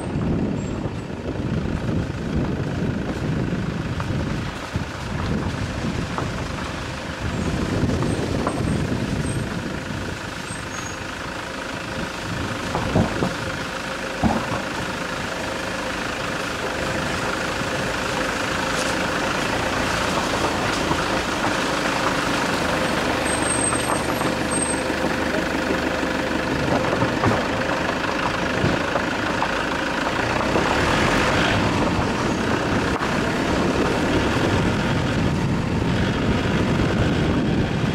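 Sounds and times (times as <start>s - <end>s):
tyres on gravel: 0.0s - 37.9s
vehicle engine and road noise: 0.0s - 37.9s.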